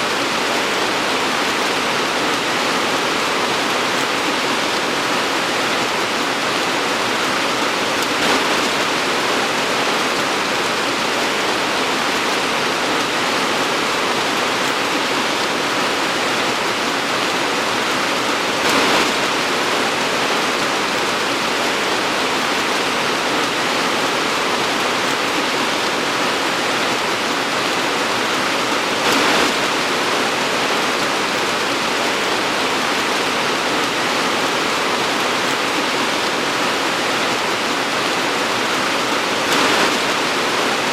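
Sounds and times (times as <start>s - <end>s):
torrential rain pouring: 0.0s - 40.9s.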